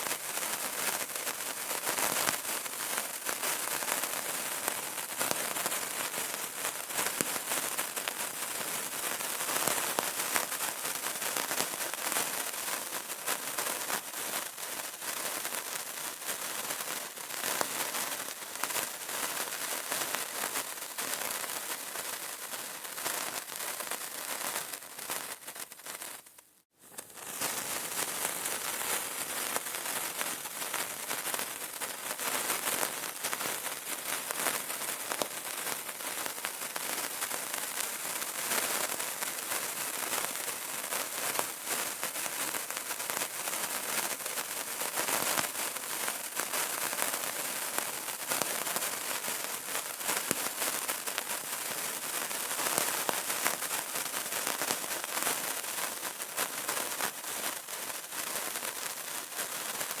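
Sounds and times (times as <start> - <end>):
burning candle crackling: 0.0 - 60.0.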